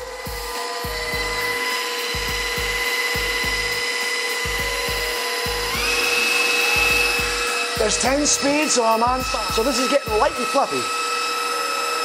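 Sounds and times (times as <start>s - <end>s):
stand mixer motor whine: 0.0s - 12.0s.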